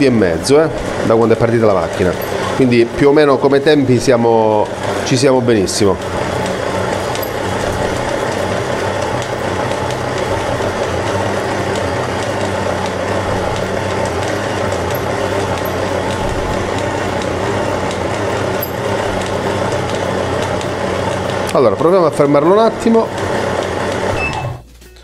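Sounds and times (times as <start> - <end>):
stand mixer motor hum: 0.0 - 24.6.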